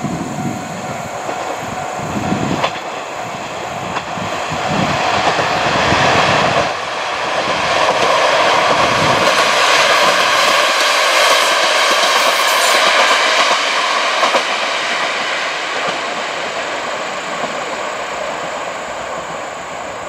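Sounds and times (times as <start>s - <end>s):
approaching train rushing noise: 0.0s - 20.0s.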